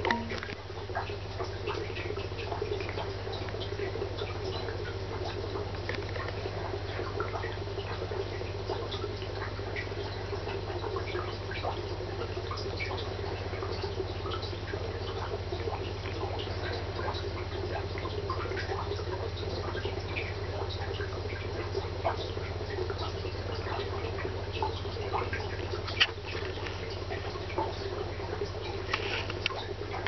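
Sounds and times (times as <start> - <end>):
aquarium equipment hum: 0.0 - 30.0
water drips and bubbles: 0.0 - 30.0.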